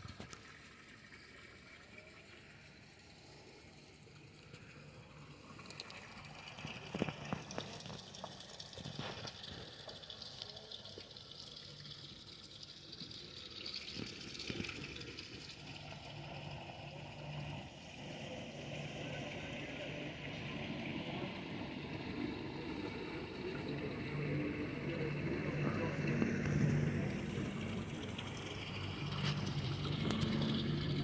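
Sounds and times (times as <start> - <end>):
water splashing and gushing: 0.0 - 31.0.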